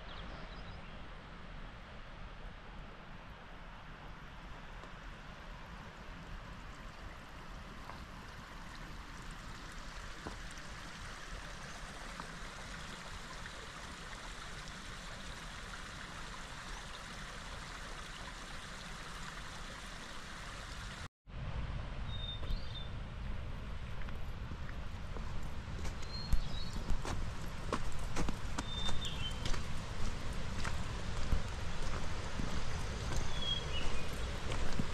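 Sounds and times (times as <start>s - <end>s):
stream rushing water: 1.3s - 21.1s, 23.8s - 34.9s.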